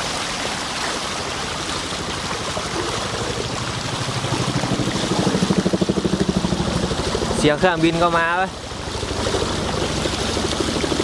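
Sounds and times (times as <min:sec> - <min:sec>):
rushing floodwater: 0:00.0 - 0:11.0
helicopter rotor beating: 0:01.3 - 0:11.0.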